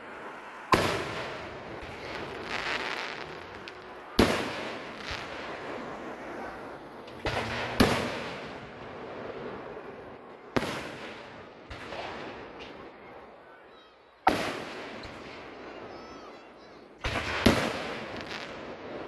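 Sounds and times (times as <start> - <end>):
fireworks booming overhead: 0.0 - 19.0.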